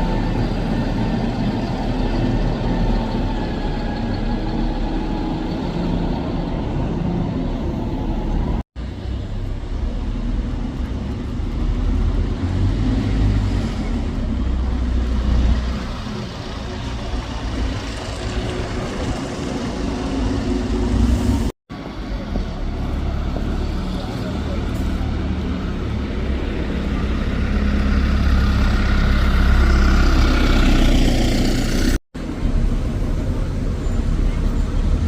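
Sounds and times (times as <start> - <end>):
bus diesel engines running: 0.0 - 35.0
street traffic: 0.0 - 35.0.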